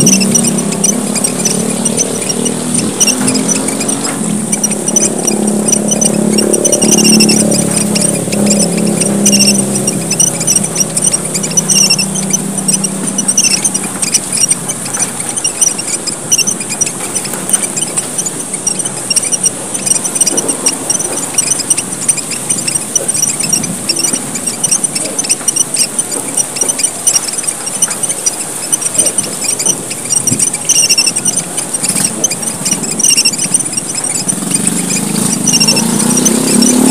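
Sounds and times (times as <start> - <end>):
constant high hiss: 0.0 - 36.9
finches chirping: 0.0 - 36.9.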